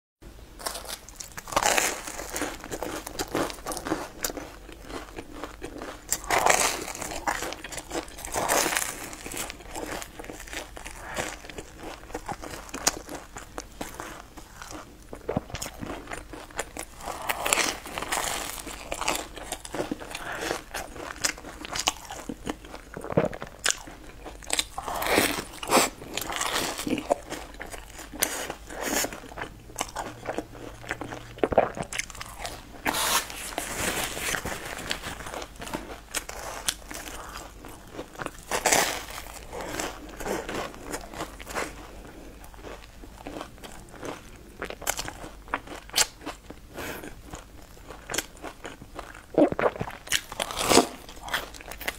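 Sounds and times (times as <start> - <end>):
crunchy bites: 0.6 - 51.9.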